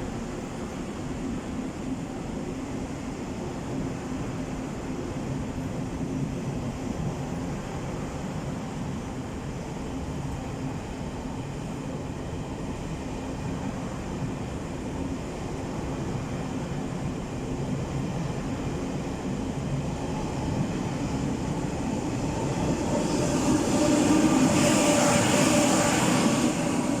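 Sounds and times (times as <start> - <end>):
train running noise: 0.0 - 27.0.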